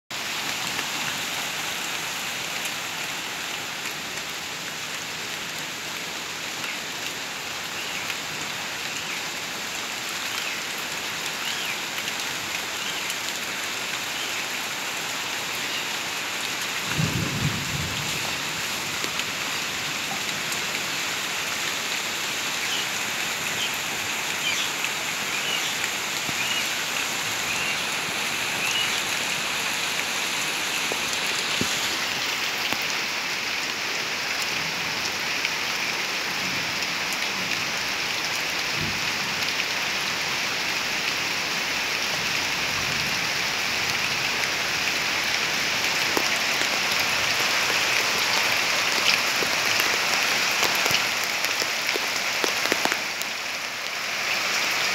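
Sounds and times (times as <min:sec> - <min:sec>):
rain on corrugated roof: 0:00.1 - 0:54.9.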